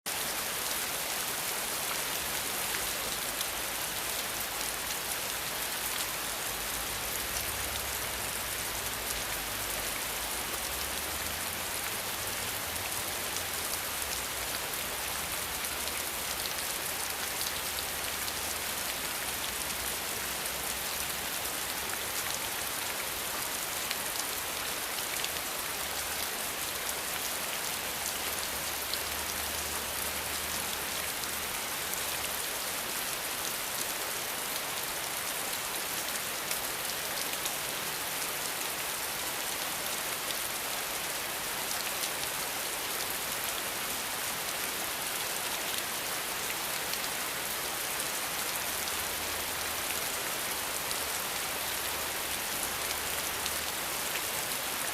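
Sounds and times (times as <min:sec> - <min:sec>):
rain pattering on surfaces: 0:00.1 - 0:54.9.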